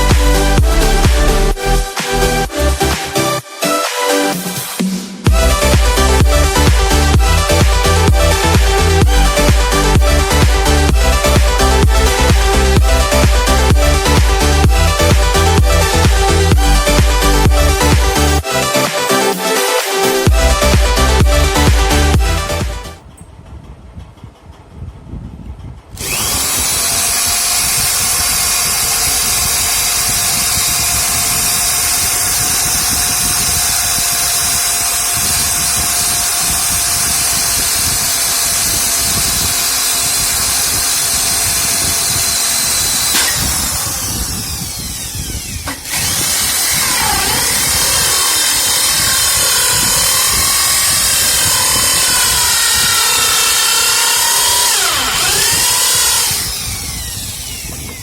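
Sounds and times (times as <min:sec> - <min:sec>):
electric drill whining: 0:00.0 - 0:23.0, 0:26.0 - 0:58.0.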